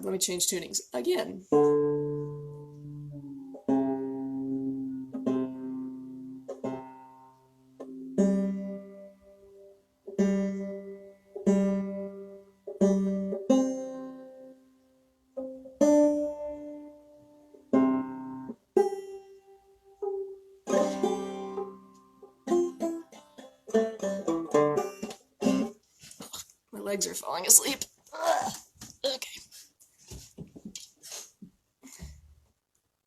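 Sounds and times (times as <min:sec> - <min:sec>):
banjo strings plucked and strummed: 0:00.0 - 0:27.8.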